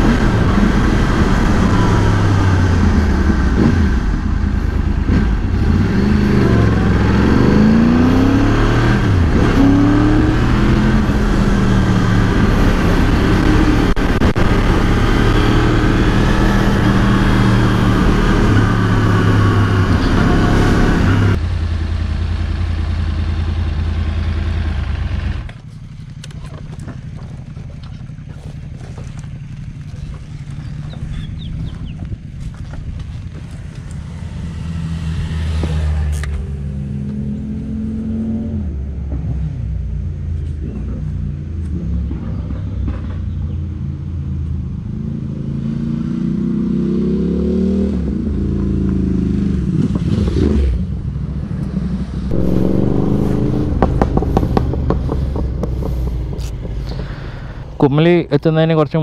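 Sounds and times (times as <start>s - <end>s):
motorcycle engine revving: 0.0s - 39.8s, 45.0s - 59.0s.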